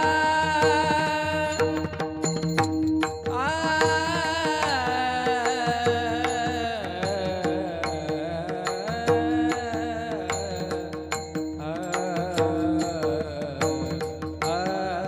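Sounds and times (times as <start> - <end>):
hand drum beats: 0.0 - 14.9
person singing devotional song: 0.0 - 15.0.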